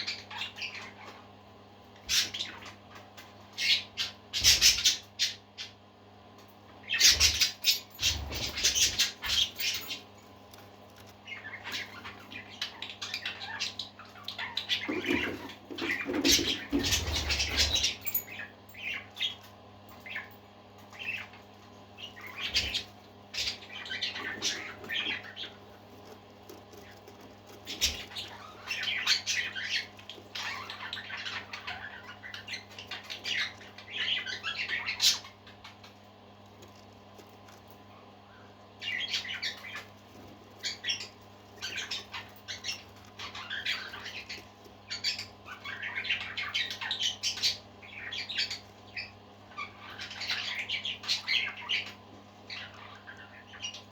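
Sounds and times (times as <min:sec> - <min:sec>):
parakeets chirping and chattering: 0:00.0 - 0:53.9
steady low hum: 0:00.0 - 0:53.9.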